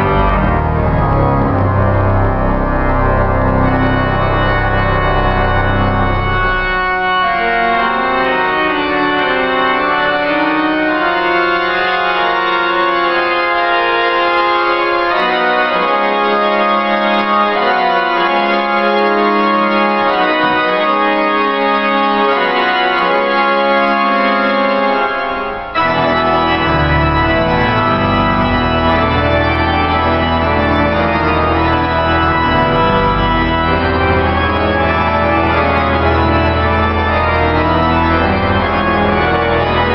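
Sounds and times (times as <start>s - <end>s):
deep organ pedal bass notes: 0.0s - 39.9s
pipe organ chords: 0.0s - 39.9s.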